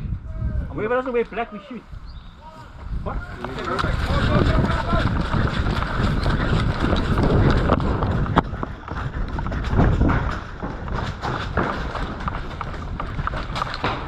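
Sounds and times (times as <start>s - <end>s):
footsteps: 0.7s - 14.0s.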